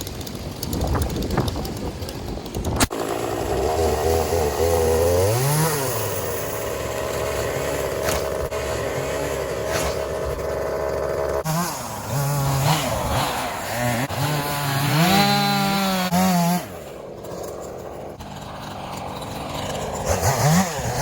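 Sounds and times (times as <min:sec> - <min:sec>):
chainsaw running: 0:00.0 - 0:21.0.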